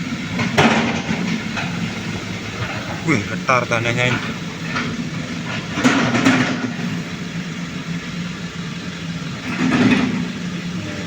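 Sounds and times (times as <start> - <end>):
loader engine running: 0.0 - 11.0.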